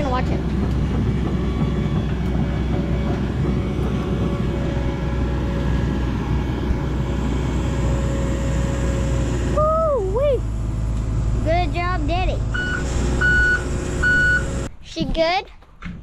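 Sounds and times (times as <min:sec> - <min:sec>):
diesel engine rumbling: 0:00.0 - 0:15.3.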